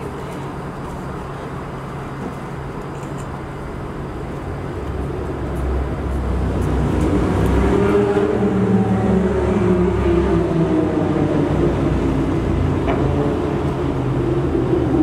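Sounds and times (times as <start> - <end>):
city traffic noise: 0.0 - 15.0
vehicle rumble approaching: 0.0 - 15.0.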